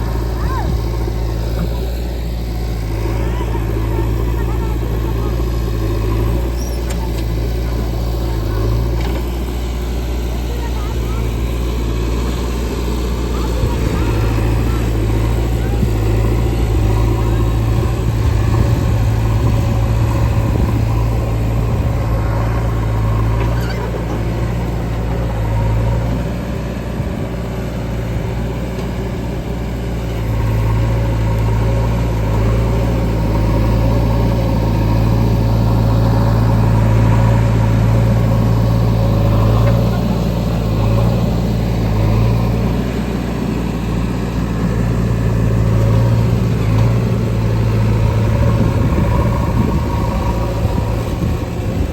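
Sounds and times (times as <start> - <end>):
diesel engine running under load: 0.0 - 51.9.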